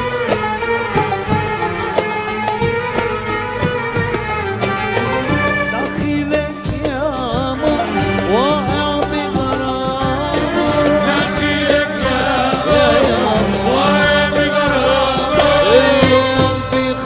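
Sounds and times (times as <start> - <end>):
lead melody with sliding ornaments: 0.0 - 16.7
steady drum beat: 0.0 - 17.0.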